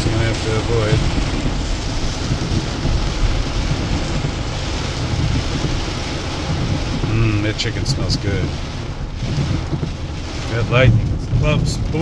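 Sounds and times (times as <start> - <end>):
car rumbling on wet road: 0.0 - 12.0
heavy rain on car roof: 0.0 - 12.0.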